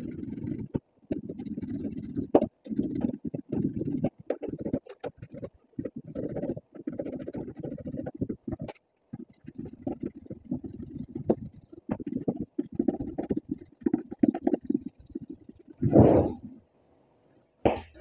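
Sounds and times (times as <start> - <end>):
hand tools clicking and scraping: 0.0 - 15.8.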